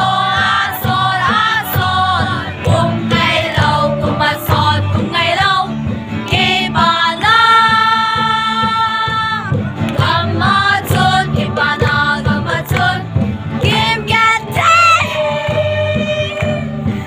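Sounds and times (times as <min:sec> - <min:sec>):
low musical accompaniment: 0:00.0 - 0:17.0.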